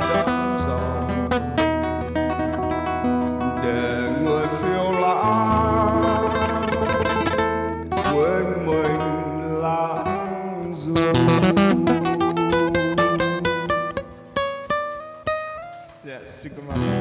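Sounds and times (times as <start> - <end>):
fingerstyle acoustic guitar: 0.0 - 16.1, 16.7 - 17.0.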